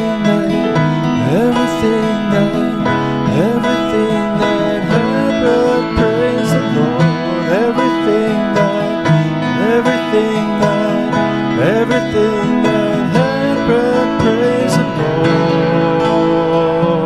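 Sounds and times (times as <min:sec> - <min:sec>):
country style instrumental music: 0:00.0 - 0:17.0.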